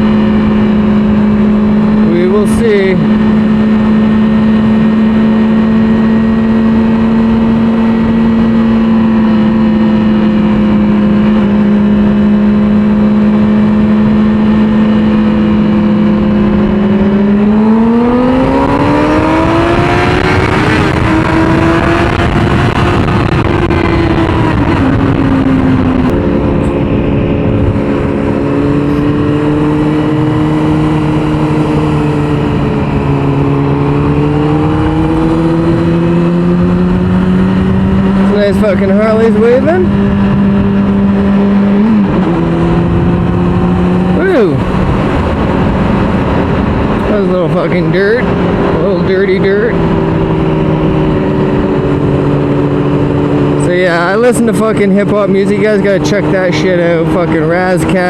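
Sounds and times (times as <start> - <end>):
sport bike engine: 0.0 - 58.0
wind noise: 0.0 - 58.0.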